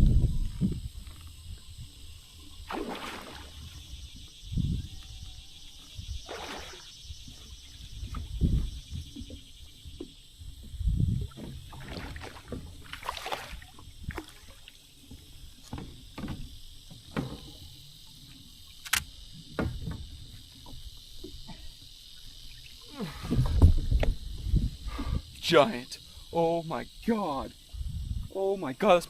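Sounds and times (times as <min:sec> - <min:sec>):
steady high hiss: 0:00.0 - 0:29.0.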